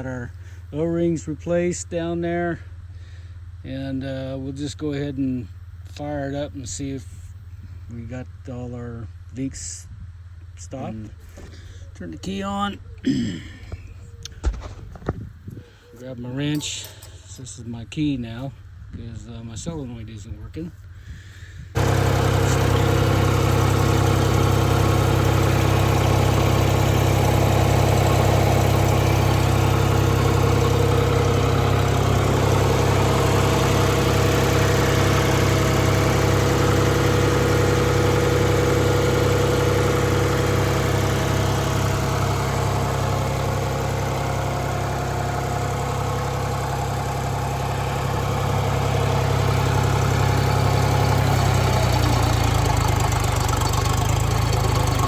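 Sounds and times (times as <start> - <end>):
diesel engine idling: 0.0 - 18.9, 20.6 - 55.0.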